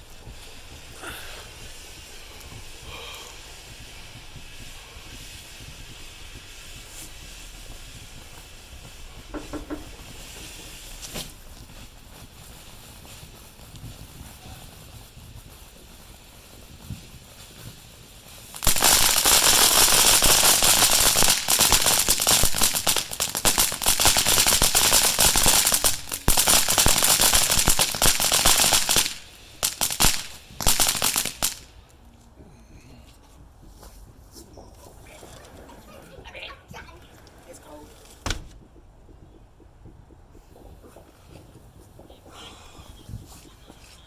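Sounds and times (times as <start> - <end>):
firecrackers popping: 0.0 - 36.3, 36.9 - 44.0.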